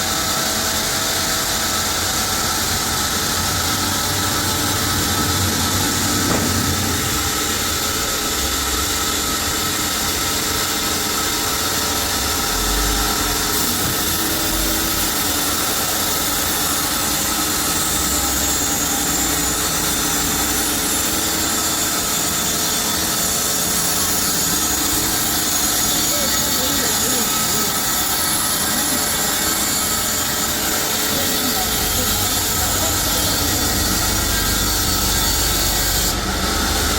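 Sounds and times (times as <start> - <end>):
sawmill machinery hissing: 0.0 - 36.9.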